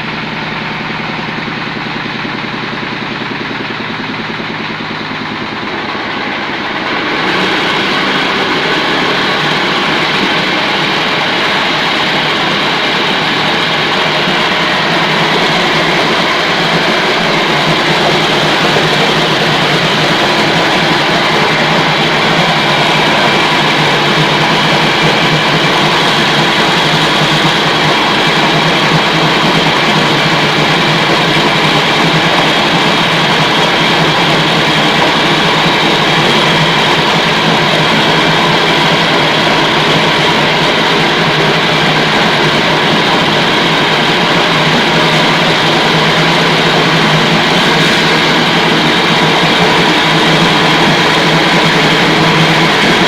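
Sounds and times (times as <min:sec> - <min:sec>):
meat grinding machine droning: 0:00.0 - 0:53.0.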